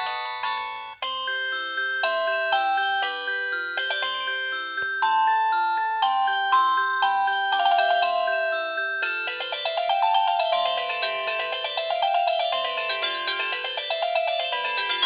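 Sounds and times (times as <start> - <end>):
cell phone ringtone melody: 0.0 - 15.0.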